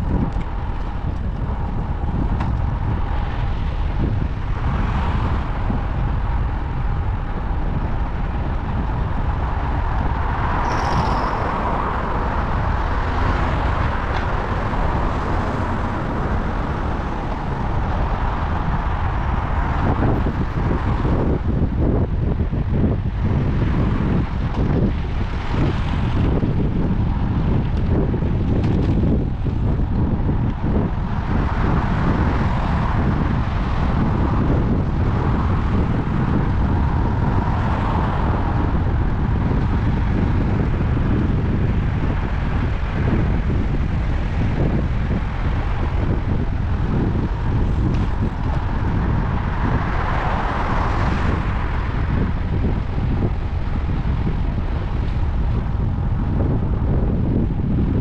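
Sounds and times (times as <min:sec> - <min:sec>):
passing road traffic: 0:00.0 - 0:58.0
wind on microphone: 0:00.0 - 0:58.0.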